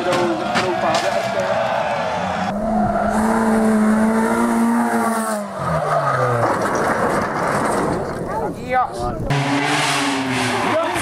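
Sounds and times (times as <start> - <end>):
rally car engine revving: 1.2 - 8.3, 9.2 - 11.0.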